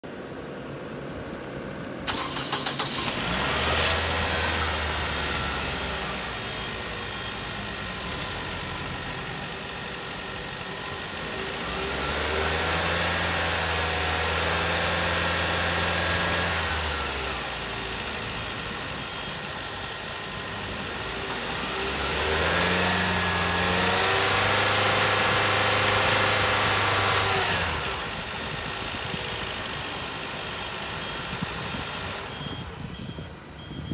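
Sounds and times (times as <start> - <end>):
car engine starting and revving: 2.0 - 33.0.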